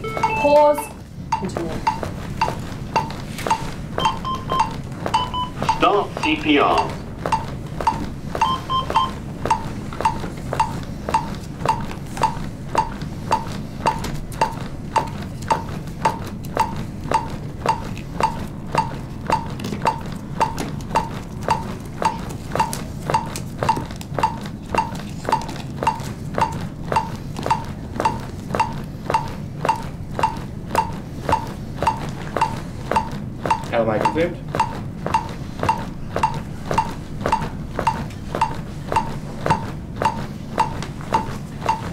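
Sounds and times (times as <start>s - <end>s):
metronome beeping: 0.0s - 41.9s.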